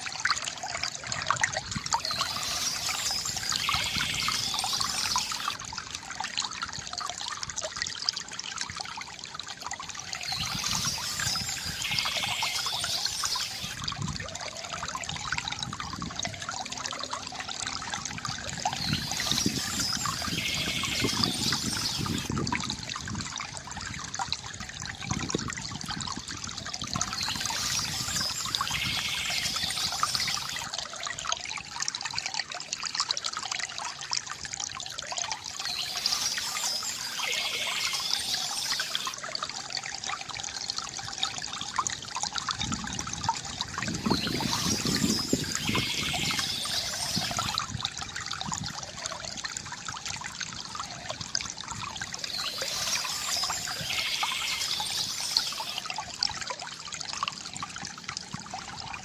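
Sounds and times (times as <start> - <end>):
water trickling from bamboo fountain: 0.0 - 59.0.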